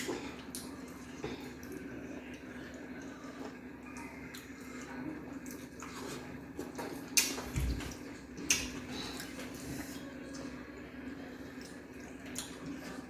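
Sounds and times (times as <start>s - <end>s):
wet squishy eating: 0.0s - 13.0s.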